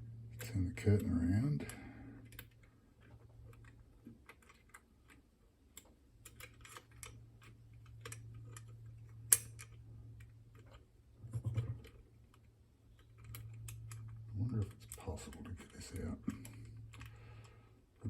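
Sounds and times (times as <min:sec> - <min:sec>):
faint low hum: 0:00.0 - 0:18.0
lock picks scraping and clicking: 0:02.2 - 0:17.2.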